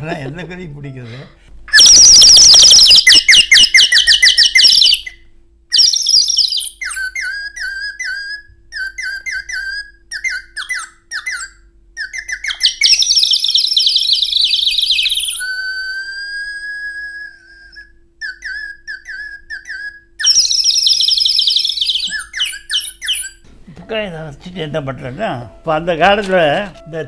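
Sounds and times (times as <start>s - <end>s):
bird whistle chirping trills: 1.7s - 27.0s.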